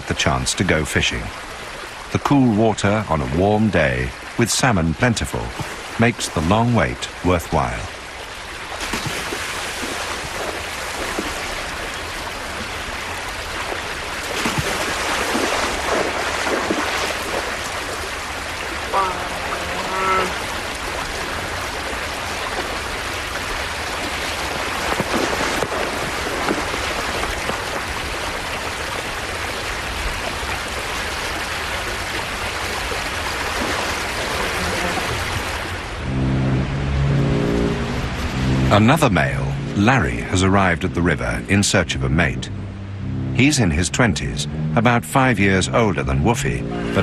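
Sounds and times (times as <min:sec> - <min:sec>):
river water rushing: 0:00.0 - 0:47.0
water splashes: 0:00.0 - 0:47.0.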